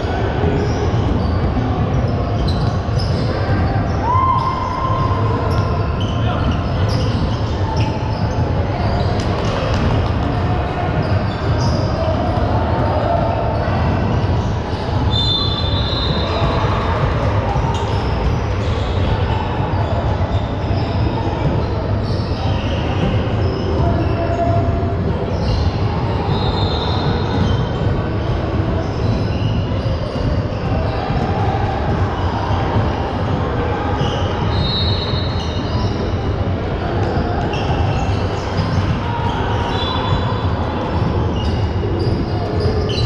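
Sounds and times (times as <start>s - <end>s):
crowd noise and voices: 0.0s - 43.0s.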